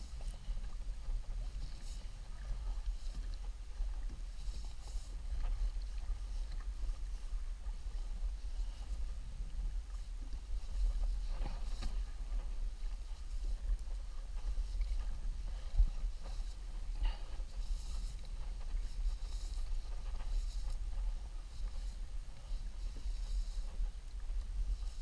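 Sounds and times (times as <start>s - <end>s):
steady low rumble: 0.0s - 25.0s
water splashing against kayak hull: 0.0s - 25.0s.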